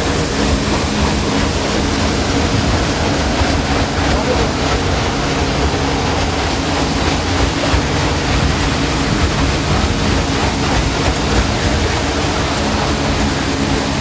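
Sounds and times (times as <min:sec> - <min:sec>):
low hum: 0:00.0 - 0:14.0
paddlewheel churning water: 0:00.0 - 0:14.0.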